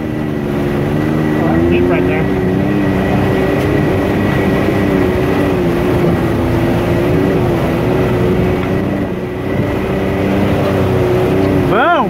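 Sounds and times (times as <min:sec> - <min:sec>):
rushing water: 0:00.0 - 0:12.0
vehicle engine running: 0:00.0 - 0:12.0.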